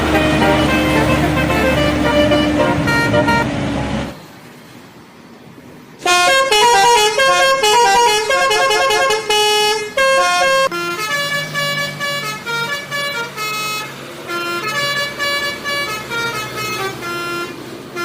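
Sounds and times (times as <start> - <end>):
multi-trumpet air horns playing tune: 0.0 - 3.5, 6.0 - 18.0.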